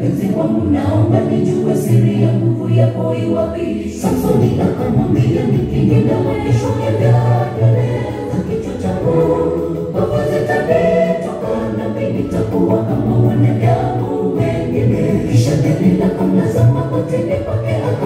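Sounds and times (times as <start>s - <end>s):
gospel choir singing: 0.0s - 18.0s.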